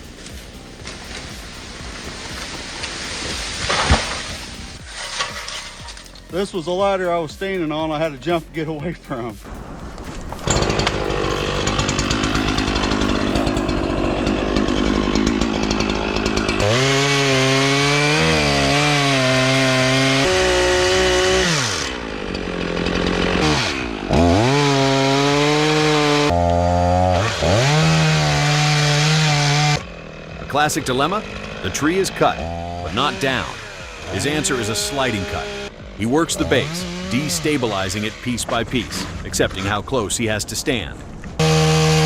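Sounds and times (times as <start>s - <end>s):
chainsaw running: 0.0s - 6.6s, 9.4s - 39.7s, 41.3s - 42.0s.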